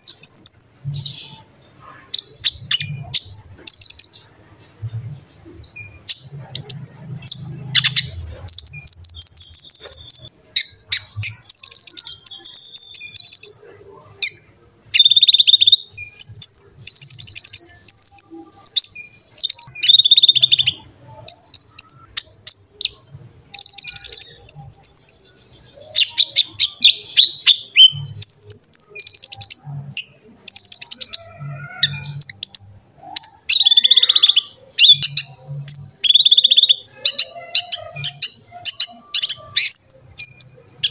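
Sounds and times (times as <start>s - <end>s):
sunbird chirps and trills: 0.0s - 40.9s.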